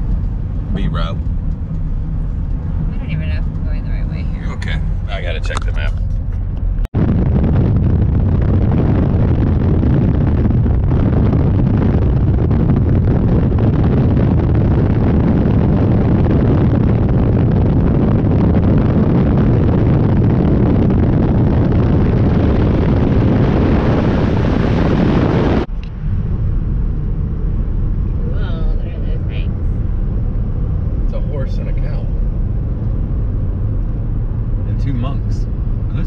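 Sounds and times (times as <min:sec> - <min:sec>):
wind and road noise from car: 0:00.0 - 0:36.0
wind buffeting microphone: 0:00.0 - 0:36.0.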